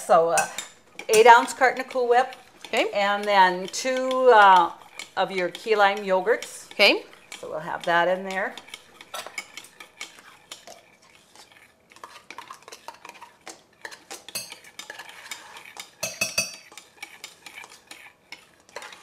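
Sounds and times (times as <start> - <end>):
spoons scraping in mixing bowls: 0.0 - 19.0.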